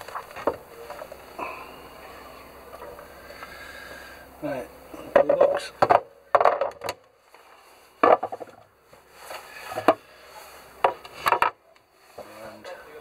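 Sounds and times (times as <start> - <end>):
quiet rustling: 0.0 - 6.0, 7.0 - 13.0.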